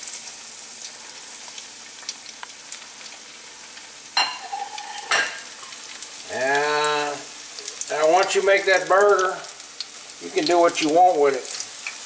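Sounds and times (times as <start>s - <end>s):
fish cake sizzling in oil: 0.0s - 12.0s.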